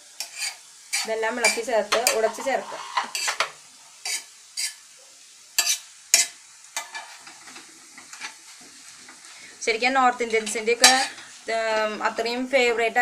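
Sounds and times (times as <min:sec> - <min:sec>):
faint sizzling: 0:00.0 - 0:13.0.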